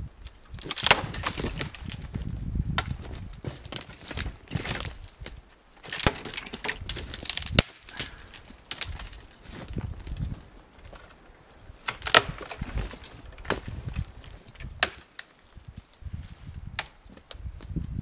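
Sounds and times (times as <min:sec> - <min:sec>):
twigs rustling and crunching: 0:00.1 - 0:18.0
dry branches cracking: 0:00.2 - 0:18.0.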